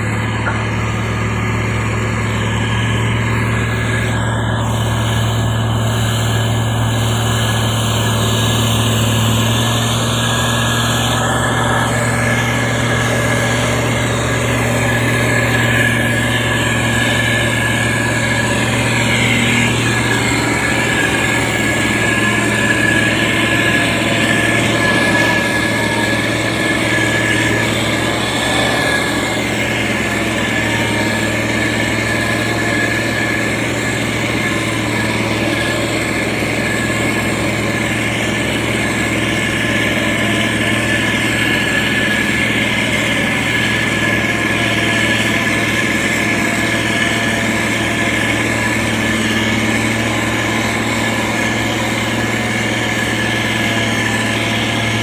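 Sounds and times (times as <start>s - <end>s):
diesel engine running: 0.0s - 55.0s
thin steady whine: 0.0s - 55.0s.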